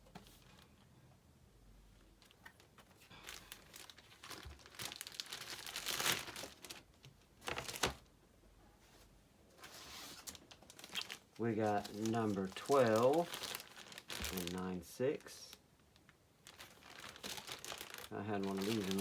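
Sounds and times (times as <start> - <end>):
plastic packaging crinkling: 2.2 - 8.1, 9.6 - 19.0.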